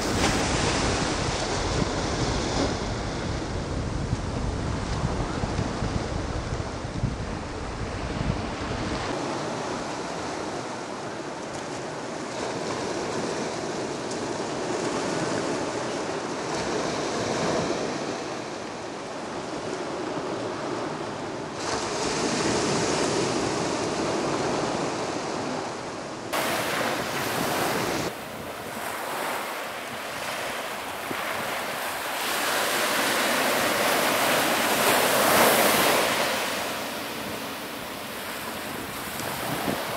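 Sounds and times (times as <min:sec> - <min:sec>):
waves breaking: 0:00.0 - 0:03.7, 0:08.4 - 0:39.9.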